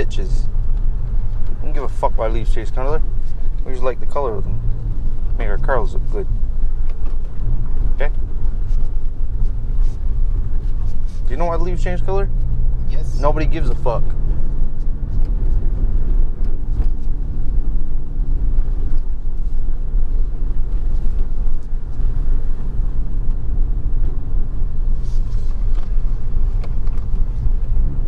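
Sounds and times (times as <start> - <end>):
car engine drone: 0.0 - 28.0
road rumble: 0.0 - 28.0.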